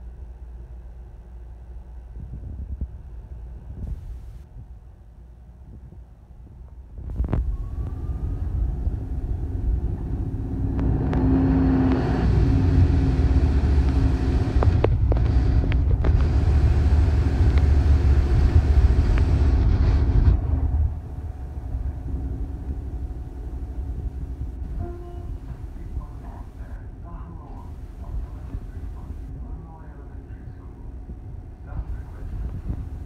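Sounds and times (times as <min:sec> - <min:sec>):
bus drivetrain and road rumble: 0:00.0 - 0:33.0
steady hum: 0:00.0 - 0:33.0.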